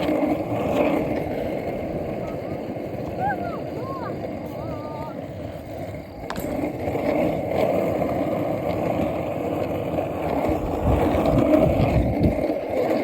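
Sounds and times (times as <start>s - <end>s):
wheels rolling over pavement: 0.0s - 13.0s
wind buffeting microphone: 0.0s - 13.0s.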